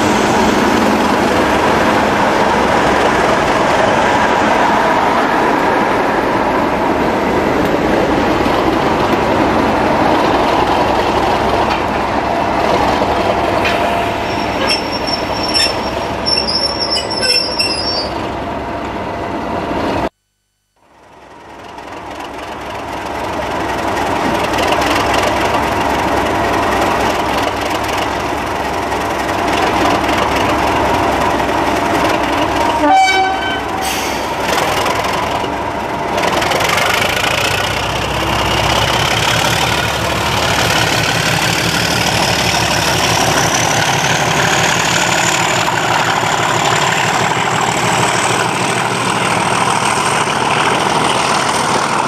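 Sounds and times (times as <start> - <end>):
train coaches rolling: 0.0 - 20.1, 21.4 - 52.0
diesel locomotive engine: 0.0 - 20.2, 20.9 - 52.0.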